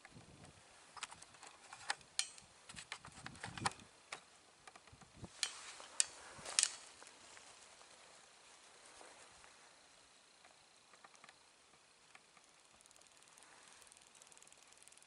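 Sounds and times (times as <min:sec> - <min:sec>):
handling clicks and rustles in dry grass: 0:00.0 - 0:15.0.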